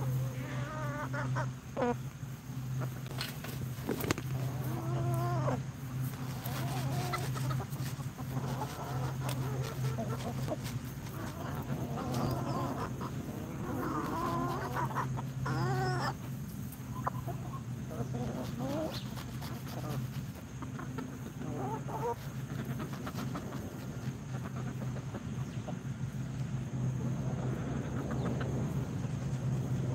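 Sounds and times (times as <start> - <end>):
hens clucking: 0.0 - 29.9
steady low hum: 0.0 - 29.9.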